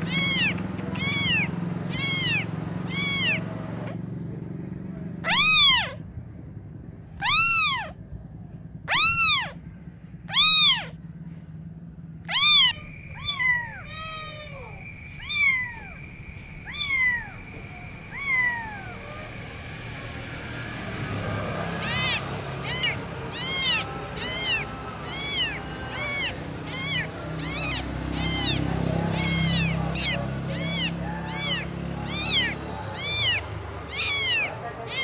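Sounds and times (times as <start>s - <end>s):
kitten mewing: 0.0s - 4.0s, 5.1s - 6.1s, 7.2s - 8.0s, 8.9s - 9.6s, 10.2s - 11.0s, 12.2s - 35.0s.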